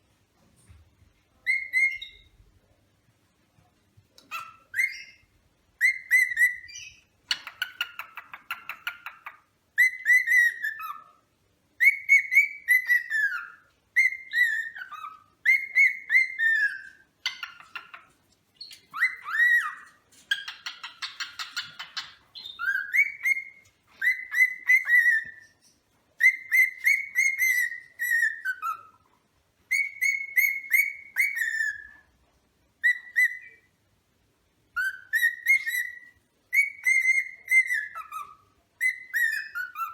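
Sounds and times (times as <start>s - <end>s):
cockatiel whistling calls: 1.4s - 2.4s, 4.2s - 11.2s, 11.8s - 29.0s, 29.7s - 32.1s, 32.8s - 33.7s, 34.7s - 39.9s.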